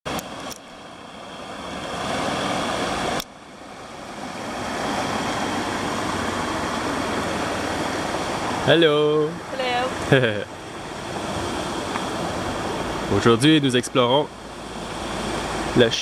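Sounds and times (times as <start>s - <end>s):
waterfall rushing: 0.3s - 16.0s.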